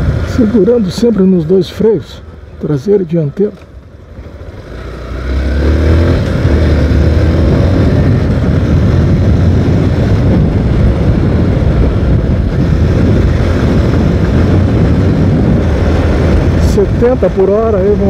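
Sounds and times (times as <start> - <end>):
wind and motorcycle engine rumble: 0.0 - 18.0.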